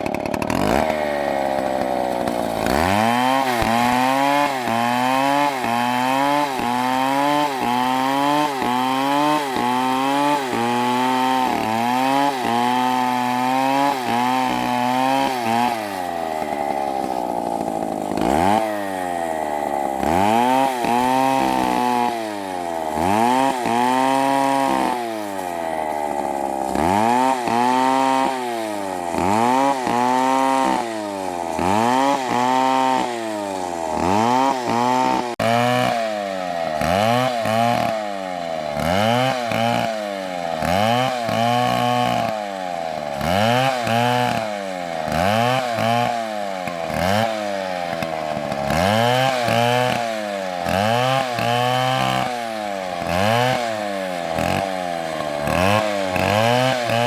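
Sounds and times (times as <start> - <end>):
chainsaw cutting tree: 0.0 - 57.0.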